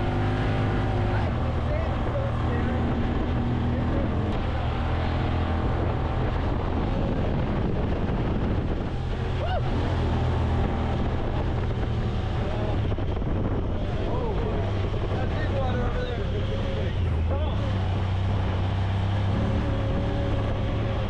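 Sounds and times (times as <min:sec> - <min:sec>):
utility vehicle engine running: 0:00.0 - 0:21.0
wind buffeting microphone: 0:00.0 - 0:21.0.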